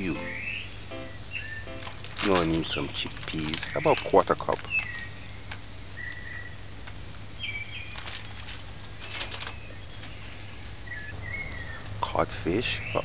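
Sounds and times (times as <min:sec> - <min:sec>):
high bird chirps: 0:00.0 - 0:06.6, 0:07.3 - 0:12.0.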